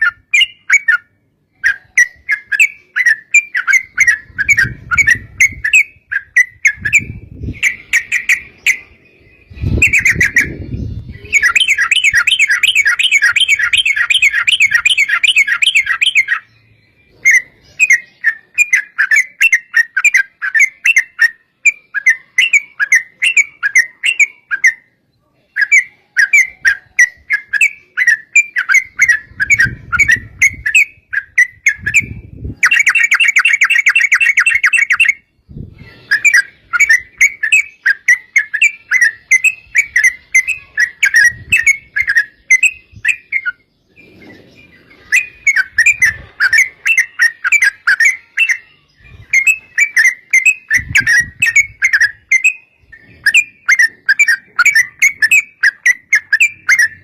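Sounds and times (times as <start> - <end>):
bird fast trills: 0.0 - 25.0, 25.6 - 57.0
bird singing chattering notes: 0.0 - 57.0.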